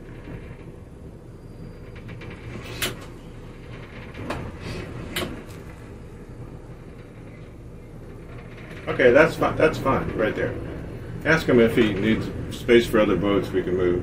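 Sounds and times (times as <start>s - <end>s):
boat engines running low: 0.0s - 14.0s.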